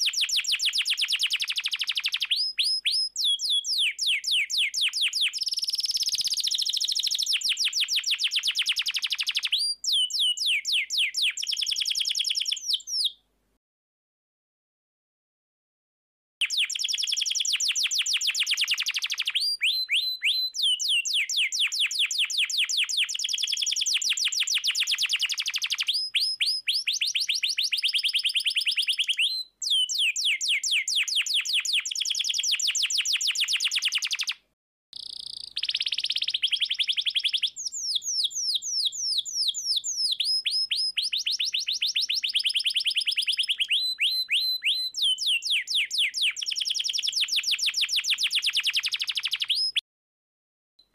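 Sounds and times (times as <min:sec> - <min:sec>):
canary singing: 0:00.0 - 0:13.2, 0:16.4 - 0:34.4, 0:35.0 - 0:49.8.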